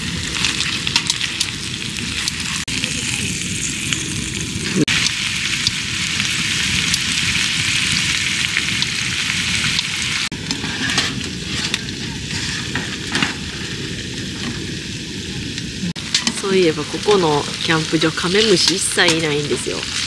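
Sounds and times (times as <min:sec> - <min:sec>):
food sizzling on stove: 0:00.0 - 0:20.0.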